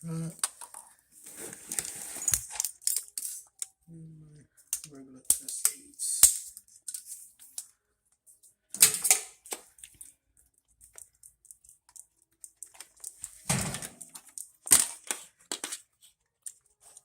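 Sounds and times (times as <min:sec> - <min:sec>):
small parts clattering: 0:00.3 - 0:03.8, 0:04.6 - 0:17.0.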